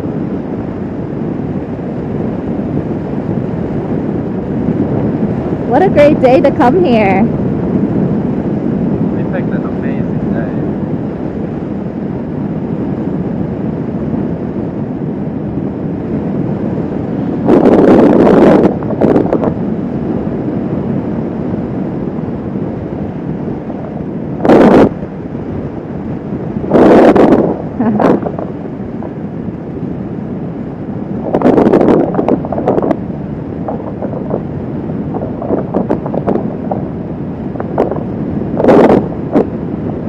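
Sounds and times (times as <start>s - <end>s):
road and engine noise: 0.0s - 40.0s
wind buffeting microphone: 0.0s - 40.0s.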